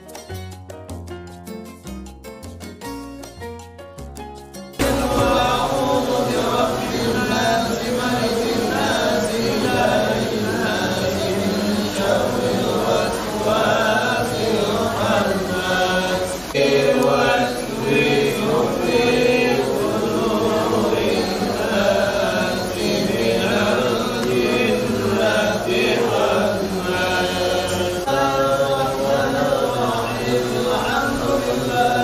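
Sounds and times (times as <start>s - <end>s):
group chanting: 4.8s - 32.0s.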